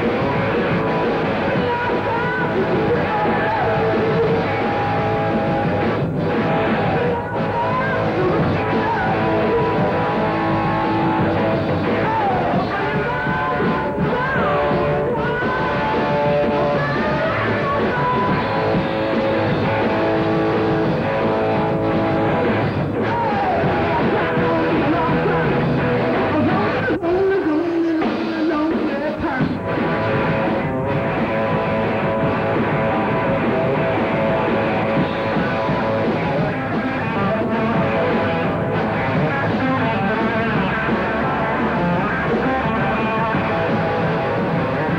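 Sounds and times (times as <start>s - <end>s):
electric guitar: 0.0s - 44.9s
rock band playing live: 0.0s - 44.9s.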